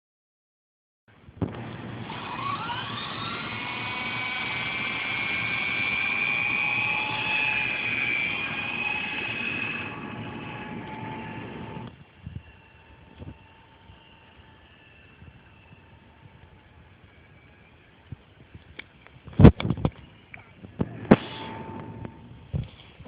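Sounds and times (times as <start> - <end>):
toy helicopter rotor whining: 2.0 - 22.8.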